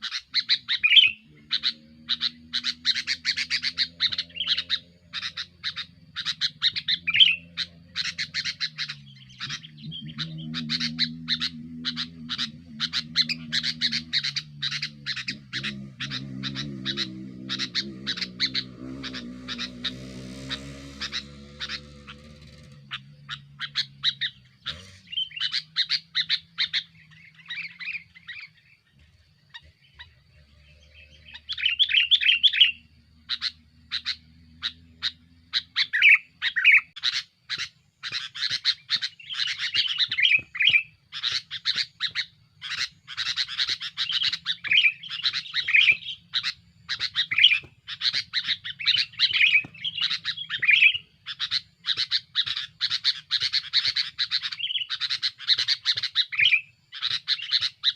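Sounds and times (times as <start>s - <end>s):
bulbul singing: 0.0s - 57.9s.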